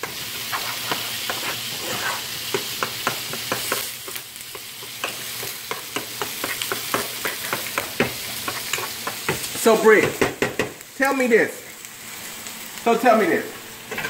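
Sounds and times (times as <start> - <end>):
food sizzling in a skillet: 0.0 - 14.0.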